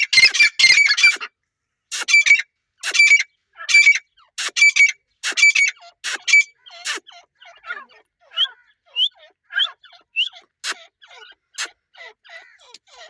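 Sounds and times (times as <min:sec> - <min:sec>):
francolin calling: 0:01.9 - 0:13.0.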